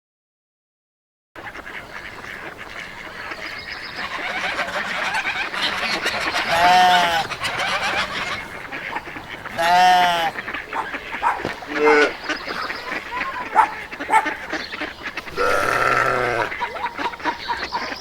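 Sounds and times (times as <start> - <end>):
loud drawn-out bird calls: 1.4 - 18.0
poultry chatter: 1.4 - 18.0.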